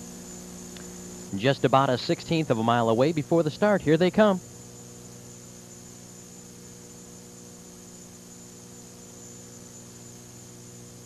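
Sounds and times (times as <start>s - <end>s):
low electrical mains hum: 0.0s - 11.0s
tape hiss: 0.0s - 11.0s.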